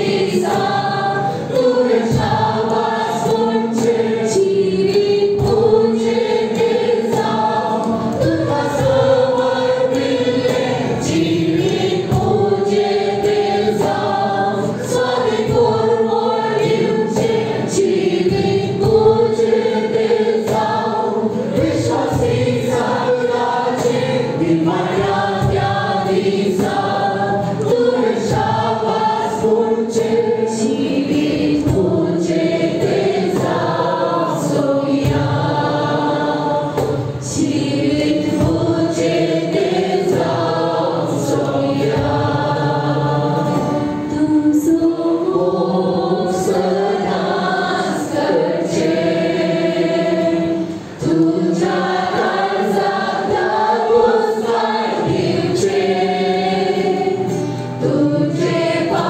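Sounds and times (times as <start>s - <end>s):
group singing worship song: 0.0s - 59.0s.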